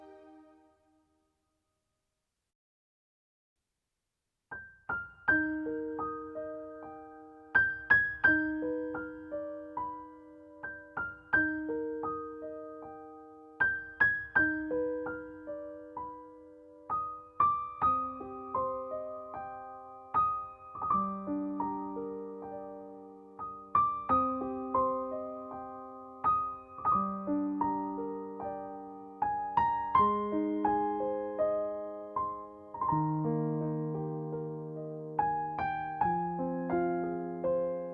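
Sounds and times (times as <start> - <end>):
gentle piano piece: 0.0 - 0.8, 4.5 - 37.9.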